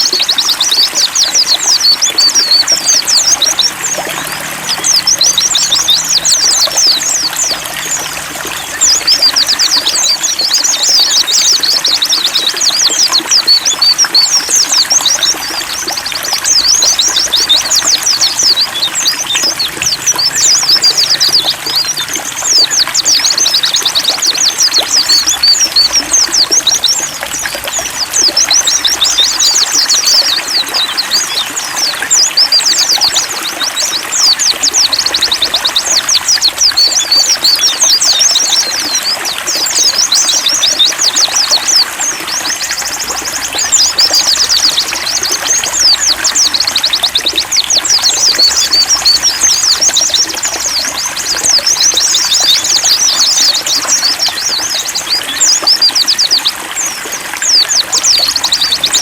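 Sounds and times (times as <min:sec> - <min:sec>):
birds twittering: 0:00.0 - 0:59.0
trickle of running water: 0:00.0 - 0:59.0.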